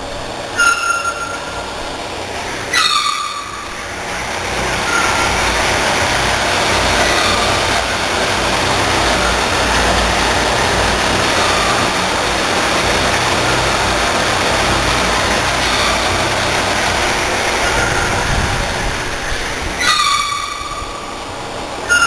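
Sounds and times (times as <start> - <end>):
faint wavering whines: 0.0 - 22.0
water rushing in drain: 0.0 - 22.0.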